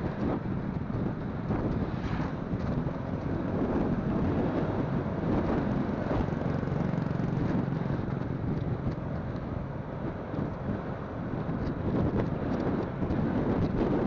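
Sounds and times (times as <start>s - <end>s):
motorcycle engine running: 0.0s - 14.0s
wind on microphone: 0.0s - 14.0s.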